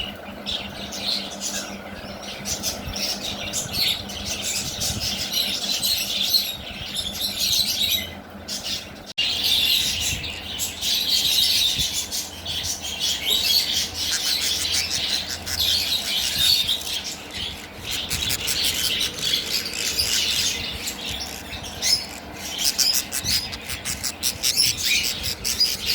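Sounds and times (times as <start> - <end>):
birds chirping and squawking: 0.0 - 25.9.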